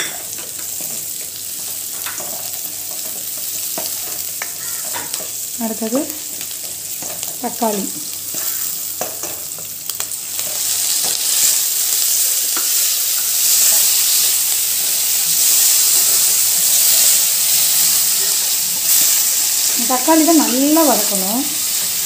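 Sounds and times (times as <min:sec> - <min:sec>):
tomatoes sizzling in hot oil: 0:00.0 - 0:22.0.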